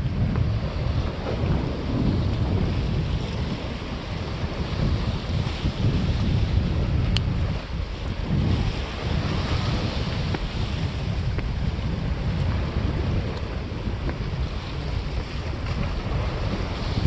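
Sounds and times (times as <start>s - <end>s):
wind buffeting microphone: 0.0s - 17.0s
sea water washing against stone: 0.1s - 17.0s.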